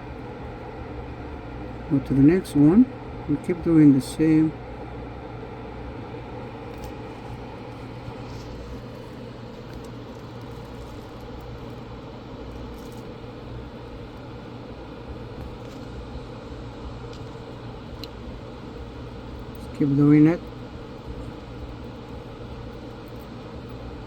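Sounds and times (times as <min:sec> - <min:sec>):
machine hum and hiss: 0:00.0 - 0:24.0.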